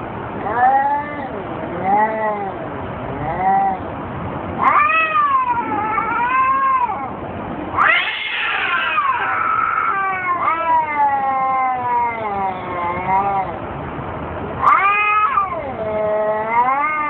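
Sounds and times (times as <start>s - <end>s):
cats caterwauling: 0.4s - 4.0s, 4.6s - 13.7s, 14.6s - 17.0s.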